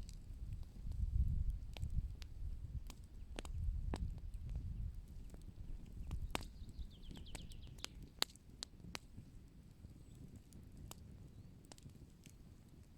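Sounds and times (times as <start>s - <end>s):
wood fire crackling and popping: 0.0s - 12.9s.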